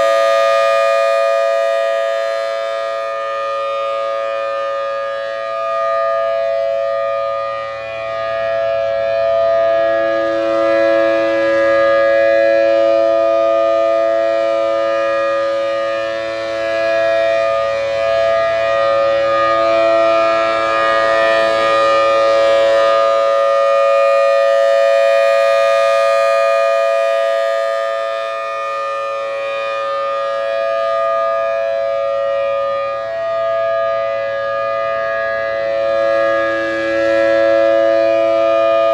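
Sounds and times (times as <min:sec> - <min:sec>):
tornado siren steady tone: 0:00.0 - 0:38.9.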